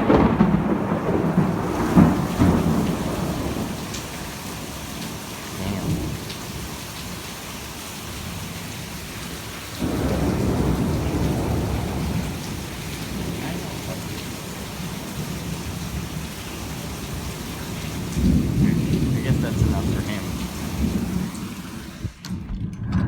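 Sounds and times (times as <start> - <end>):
heavy rain falling: 0.0 - 22.3
low thunder rumble: 0.0 - 23.0.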